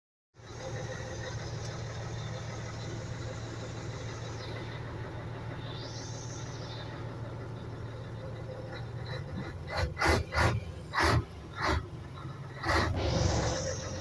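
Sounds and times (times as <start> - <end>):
car engine idling: 0.4 - 14.0.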